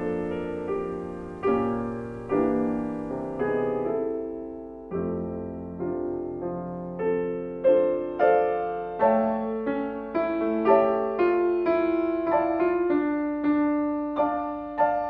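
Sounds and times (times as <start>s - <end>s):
solo piano chords: 0.0s - 15.0s.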